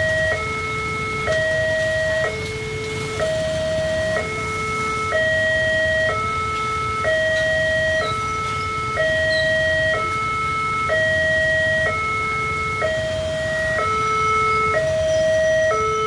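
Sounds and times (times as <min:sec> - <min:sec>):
two-tone crossing alarm: 0:00.0 - 0:16.0.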